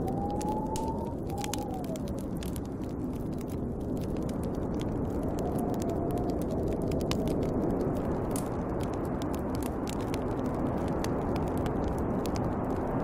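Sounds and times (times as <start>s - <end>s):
snowstorm wind blowing: 0.0s - 13.0s
wood fire crackling: 0.0s - 13.0s.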